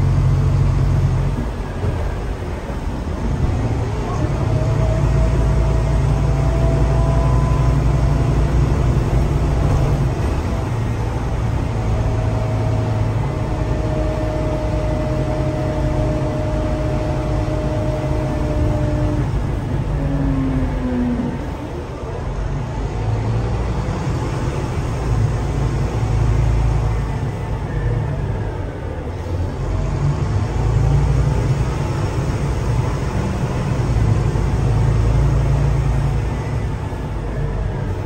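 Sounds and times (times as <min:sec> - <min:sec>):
bus engine drone with whine: 0:00.0 - 0:38.0.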